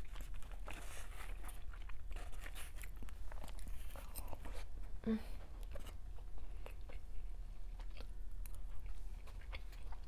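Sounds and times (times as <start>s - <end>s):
chewing and crunching food: 0.0s - 10.0s.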